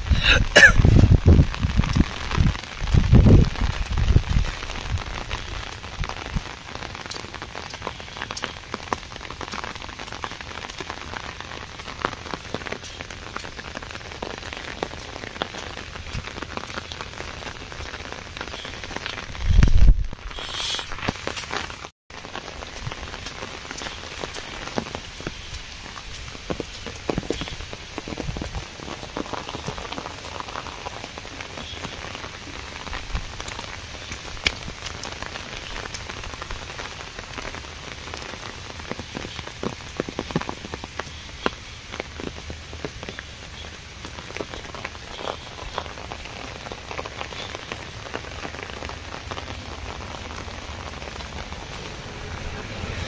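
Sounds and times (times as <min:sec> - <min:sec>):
raindrops striking close by: 0:00.0 - 0:53.0
steady rain falling: 0:00.0 - 0:53.0.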